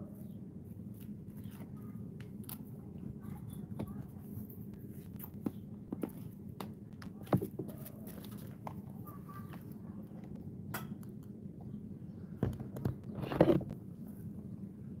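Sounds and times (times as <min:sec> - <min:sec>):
low outdoor background hum: 0:00.0 - 0:15.0.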